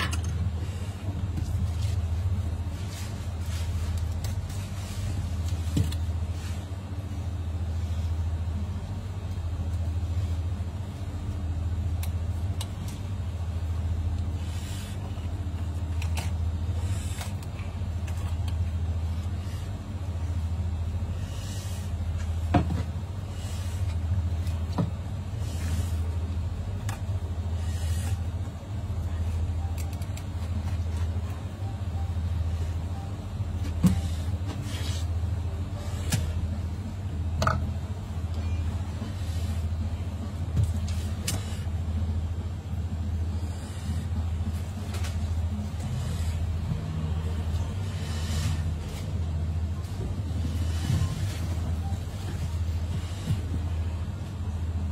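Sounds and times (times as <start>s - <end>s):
low machinery hum: 0.0s - 54.9s.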